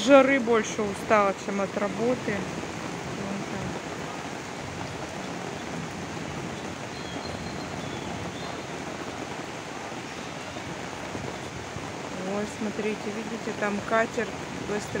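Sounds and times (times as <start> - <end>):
rain falling on trees: 0.0 - 15.0.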